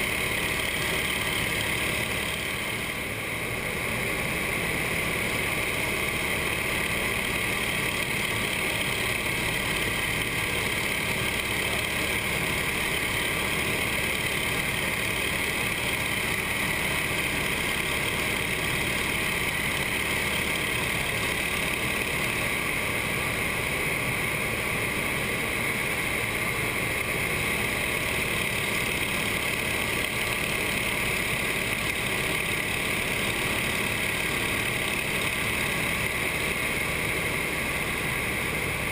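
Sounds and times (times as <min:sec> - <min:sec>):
radial engine and propeller drone: 0:00.0 - 0:38.9.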